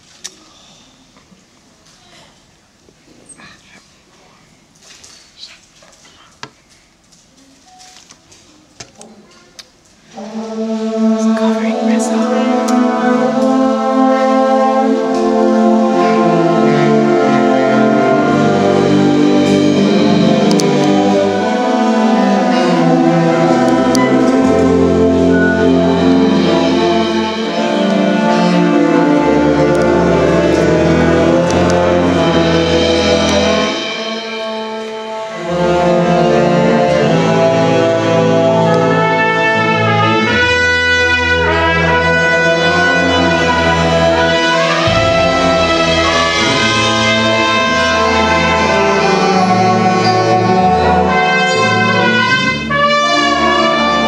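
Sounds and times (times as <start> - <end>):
brass band playing: 10.1 - 54.0.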